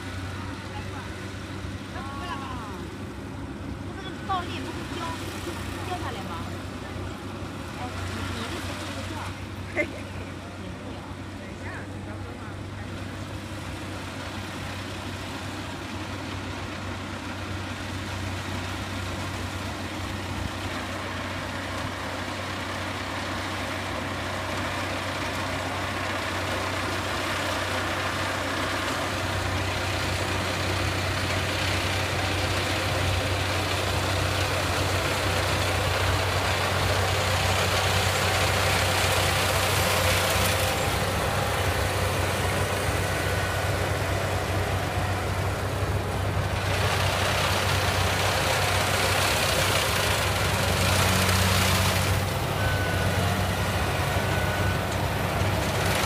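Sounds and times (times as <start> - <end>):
combine harvester engine hum: 0.0 - 56.0.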